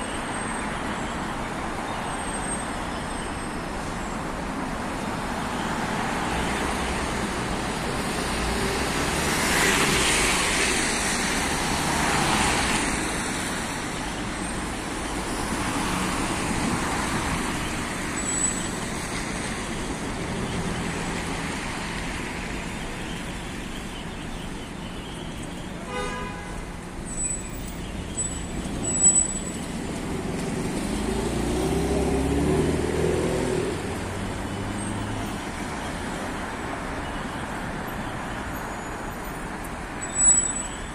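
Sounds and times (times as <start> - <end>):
traffic passing on wet road: 0.0 - 40.9.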